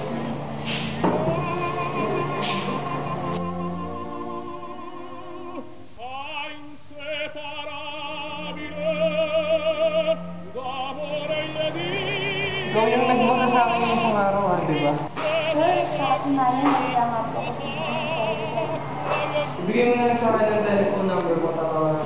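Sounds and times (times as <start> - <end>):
person singing with vibrato: 0.0 - 21.6
background music: 0.0 - 22.0.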